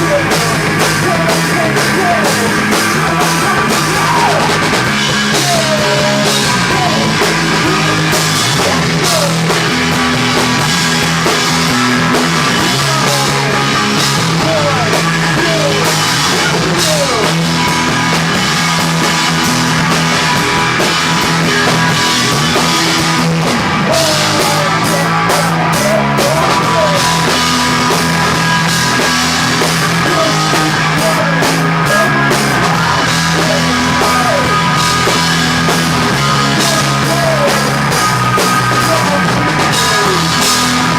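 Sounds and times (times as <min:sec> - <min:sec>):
bass: 0:00.0 - 0:40.9
distorted electric guitars: 0:00.0 - 0:40.9
pounding drum kit: 0:00.0 - 0:40.9.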